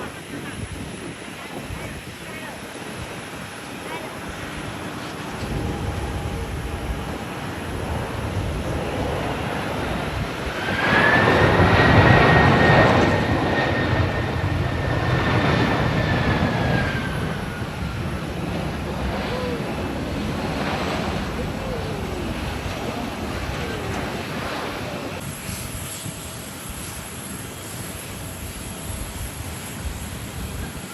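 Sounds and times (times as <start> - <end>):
jetliner passing on approach: 0.0 - 30.9.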